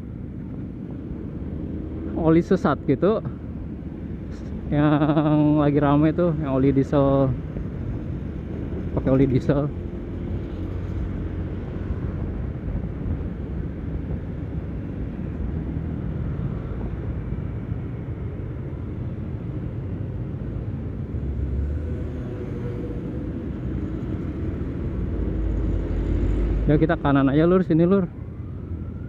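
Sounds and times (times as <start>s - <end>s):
surrounding traffic: 0.0s - 29.0s.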